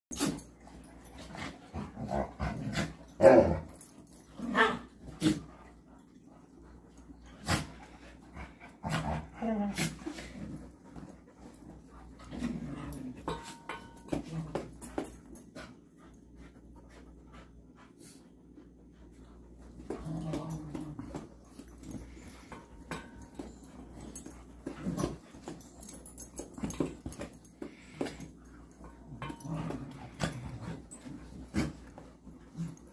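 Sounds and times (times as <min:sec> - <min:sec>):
dogs play growling and barking: 0:00.1 - 0:32.9.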